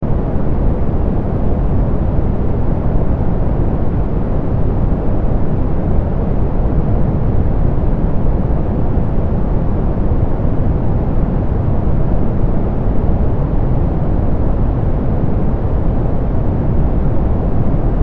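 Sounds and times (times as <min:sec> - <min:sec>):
soft pink noise: 0:00.0 - 0:18.0.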